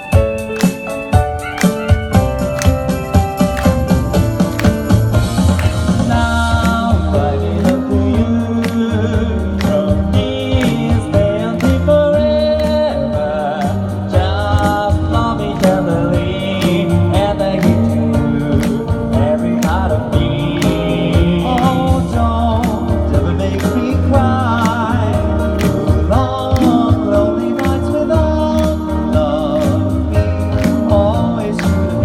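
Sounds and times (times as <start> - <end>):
steady beat and bass line: 0.0 - 32.0
male vocal group singing harmony: 6.0 - 32.0.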